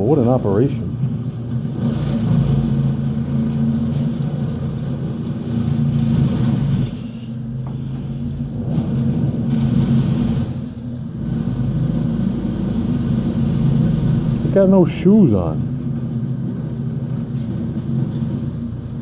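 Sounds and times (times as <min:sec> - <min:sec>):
stump grinder engine droning: 0:00.0 - 0:19.0.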